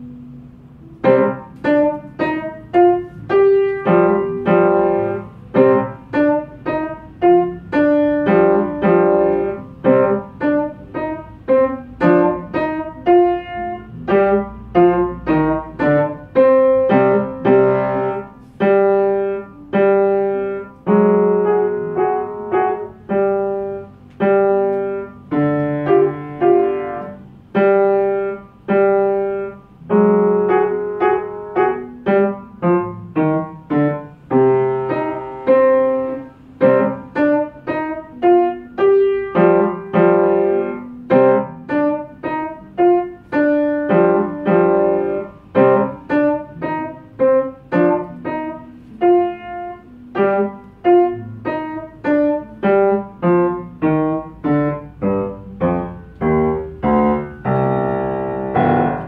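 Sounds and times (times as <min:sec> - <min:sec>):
slow piano piece: 0:00.0 - 0:59.0.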